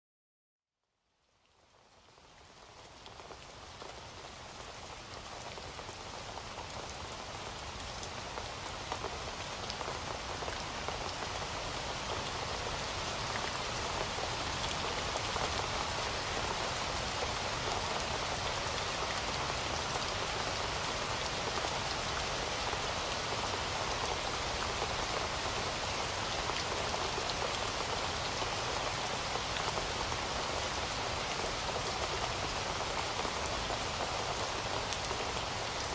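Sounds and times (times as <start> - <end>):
heavy rain falling: 2.4 - 35.9.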